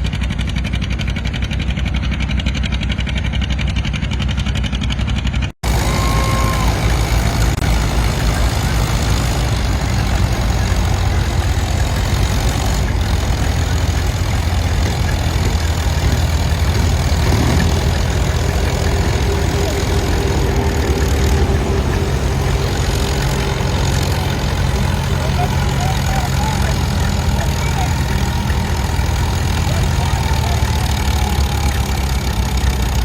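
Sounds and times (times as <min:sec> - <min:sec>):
tractor engine droning: 0:00.0 - 0:33.0
steady higher whine: 0:05.6 - 0:33.0.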